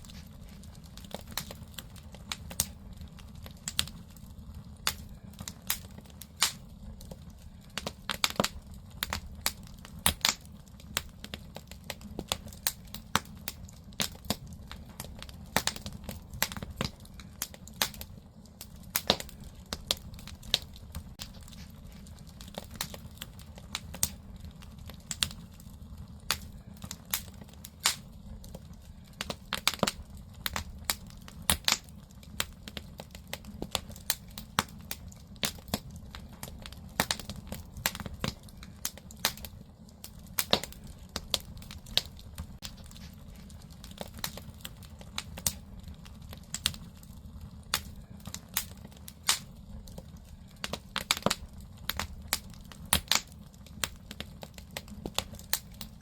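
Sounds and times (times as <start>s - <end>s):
firewood crackling and popping: 0.0s - 56.0s
low rumble of fire: 0.0s - 56.0s.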